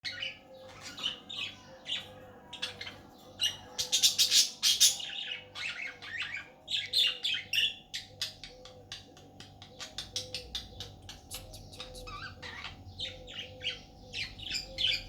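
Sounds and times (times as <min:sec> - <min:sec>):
budgerigar chattering and squawking: 0:00.0 - 0:15.0.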